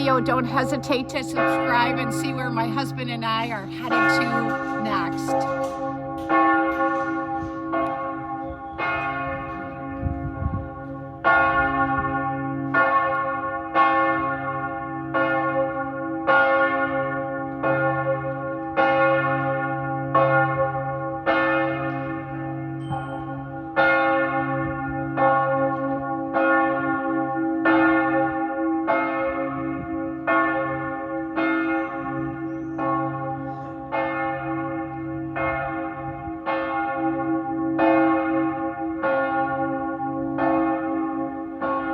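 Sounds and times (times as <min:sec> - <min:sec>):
church bells ringing: 0:00.0 - 0:41.9.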